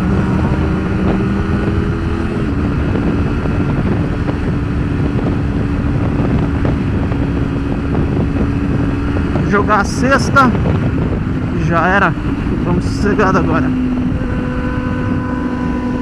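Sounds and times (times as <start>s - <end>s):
motorcycle engine cruising: 0.0s - 16.0s
wind rushing: 0.0s - 16.0s.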